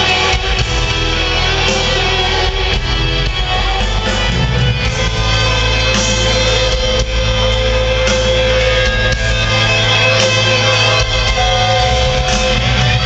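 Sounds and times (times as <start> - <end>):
electric guitar: 0.0 - 13.0
live rock band: 0.0 - 13.0.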